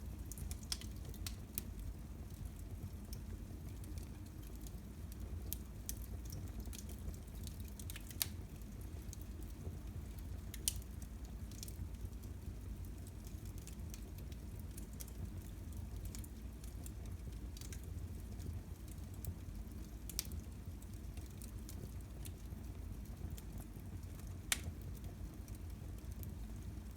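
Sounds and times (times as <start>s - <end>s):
fire crackling and popping: 0.0s - 26.9s.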